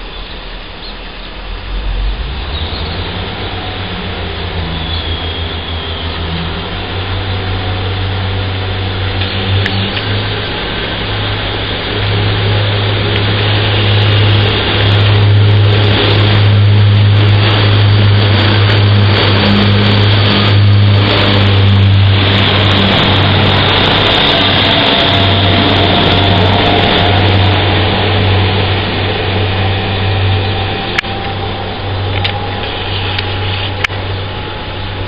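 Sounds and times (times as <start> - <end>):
diesel train engine drone: 0.0 - 35.0
moving train rumbling: 0.0 - 35.0.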